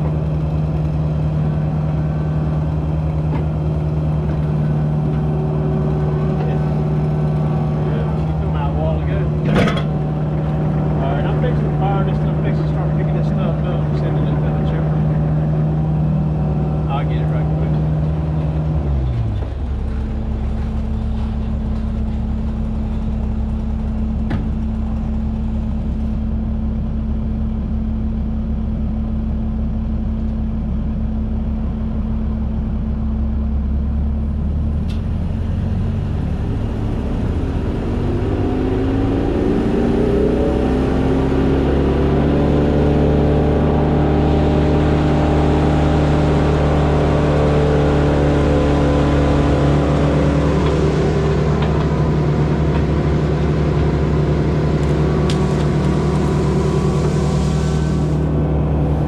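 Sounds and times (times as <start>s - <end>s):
machine engine running: 0.0s - 29.4s, 35.3s - 59.0s.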